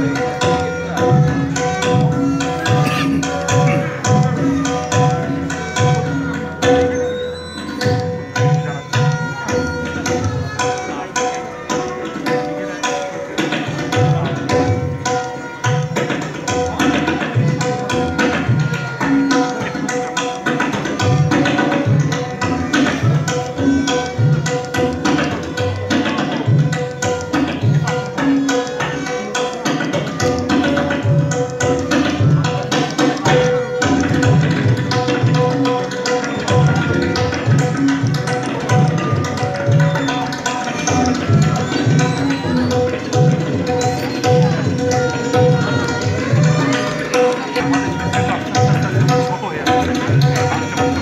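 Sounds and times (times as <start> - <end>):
bowed string melody: 0.0 - 51.0
tabla drumming: 0.0 - 51.0.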